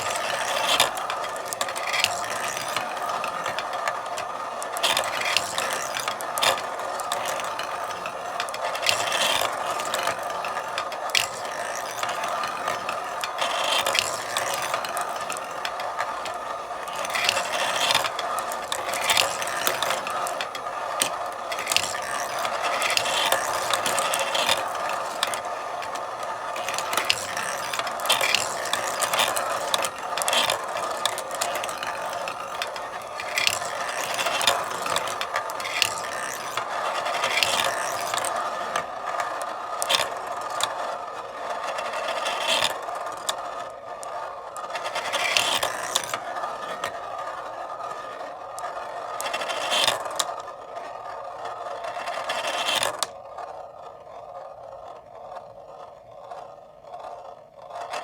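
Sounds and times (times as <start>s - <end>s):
marbles clicking and clacking: 0.0s - 53.6s
marbles rolling along tracks: 0.0s - 58.0s.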